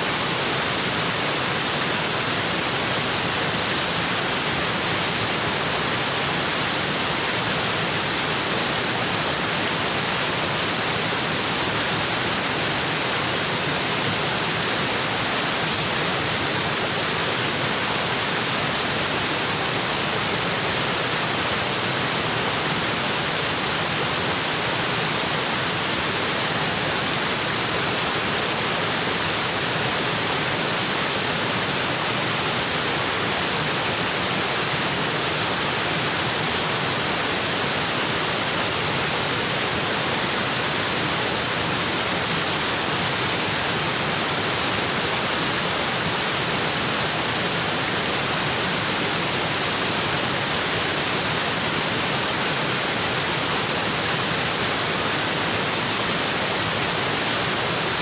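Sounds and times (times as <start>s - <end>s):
waterfall pouring over rocks: 0.0s - 58.0s.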